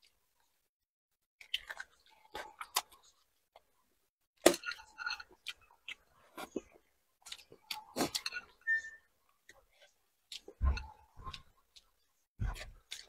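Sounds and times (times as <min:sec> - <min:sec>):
person chewing: 0:01.4 - 0:03.8, 0:04.4 - 0:13.0.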